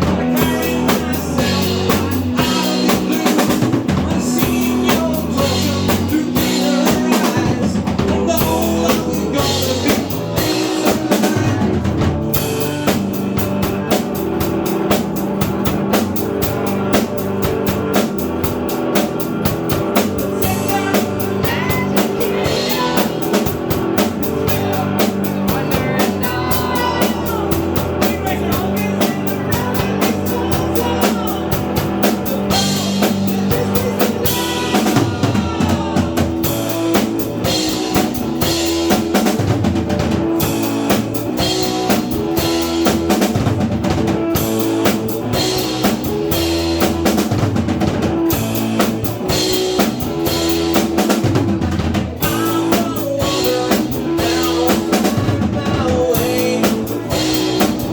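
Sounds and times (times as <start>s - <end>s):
bass drum and snare beat: 0.0s - 57.9s
live band playing: 0.0s - 57.9s.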